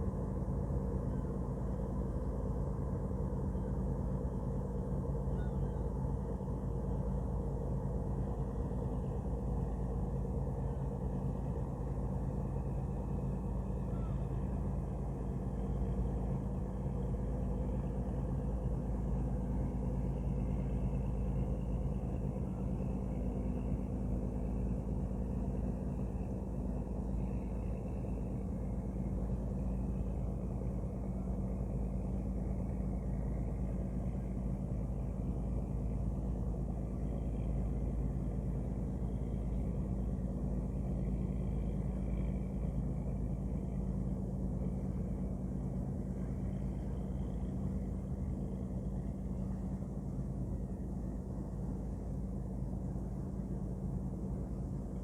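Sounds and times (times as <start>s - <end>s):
ship engine droning: 0.0s - 55.0s.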